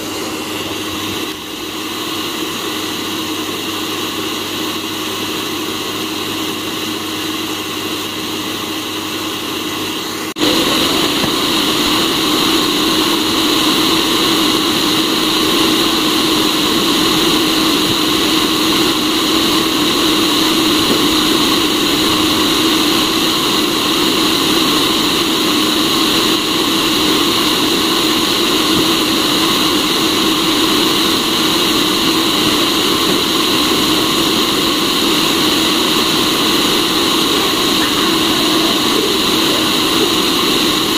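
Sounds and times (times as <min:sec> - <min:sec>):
coffee roaster fan rushing: 0:00.0 - 0:40.9.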